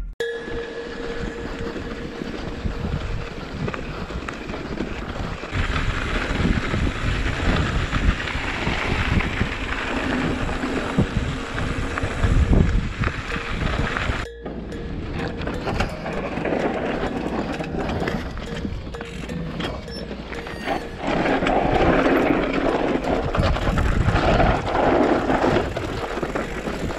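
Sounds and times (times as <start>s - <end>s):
bike rattling over bumps: 0.6s - 26.9s
wind rushing over microphone: 1.0s - 26.9s.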